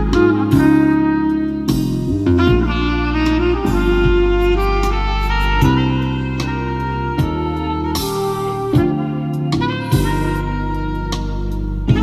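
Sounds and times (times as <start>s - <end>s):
instrumental music with strong bass: 0.0s - 12.0s.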